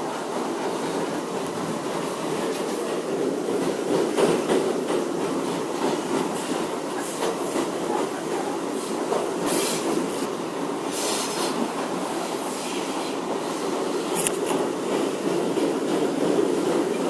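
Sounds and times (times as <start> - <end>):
subway train wheels rumbling on rails: 0.0 - 17.0.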